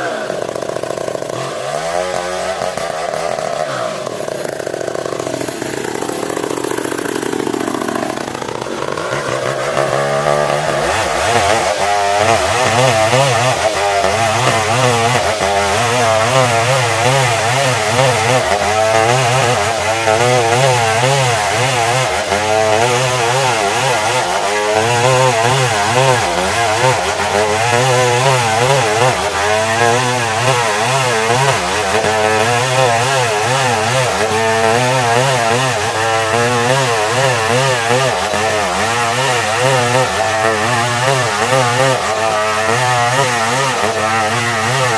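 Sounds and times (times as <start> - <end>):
chainsaw sawing wood: 0.0 - 44.9.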